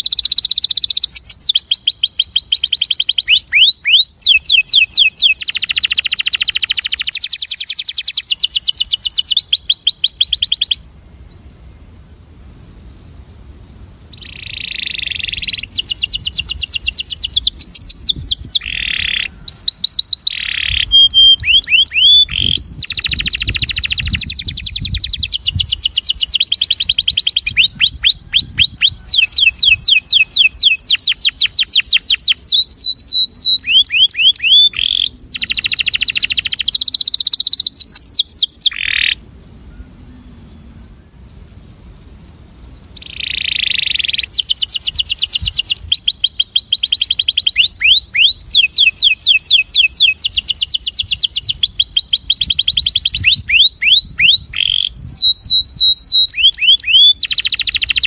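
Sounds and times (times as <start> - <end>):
canary singing trills: 0.0 - 13.0, 14.1 - 58.0.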